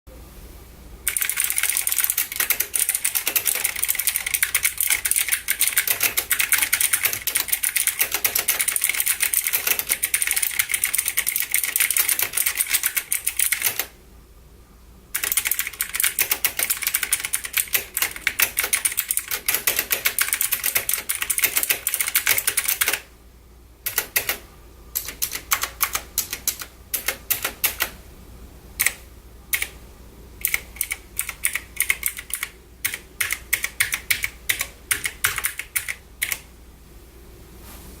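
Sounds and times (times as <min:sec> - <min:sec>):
mechanical keyboard typing: 0:01.1 - 0:14.0, 0:15.2 - 0:23.1, 0:23.9 - 0:24.4, 0:25.0 - 0:28.0, 0:28.8 - 0:29.8, 0:30.4 - 0:36.5.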